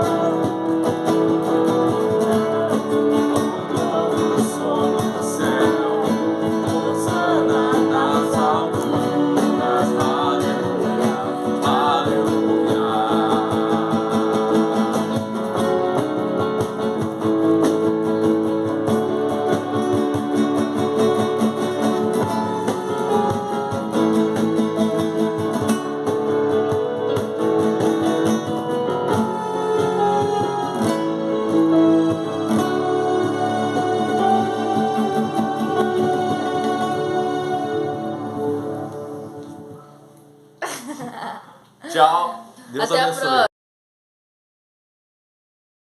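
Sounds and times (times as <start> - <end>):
acoustic guitar strumming: 0.0 - 40.6.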